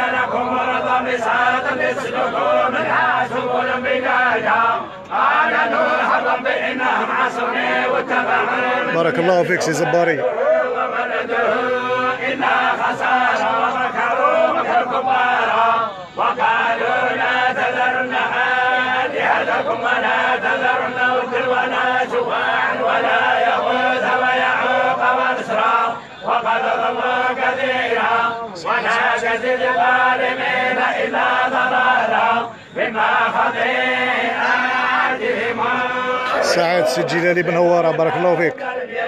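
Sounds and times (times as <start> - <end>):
men chanting recitation: 0.0 - 39.0.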